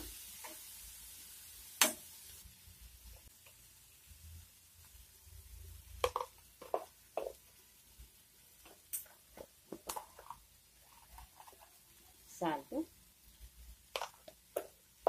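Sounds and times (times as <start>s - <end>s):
food frying in oil: 0.0s - 15.0s.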